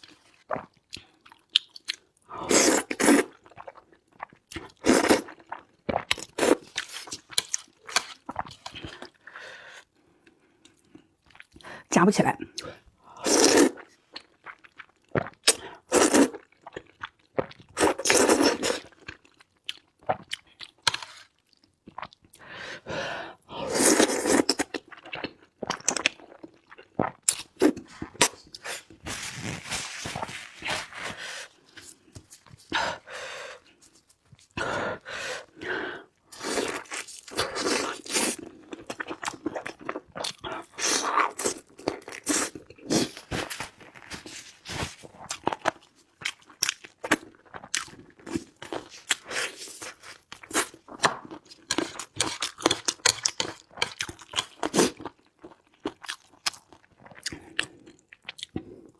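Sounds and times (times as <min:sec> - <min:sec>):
chewing and crunching food: 0:00.0 - 0:11.8, 0:12.4 - 0:58.9.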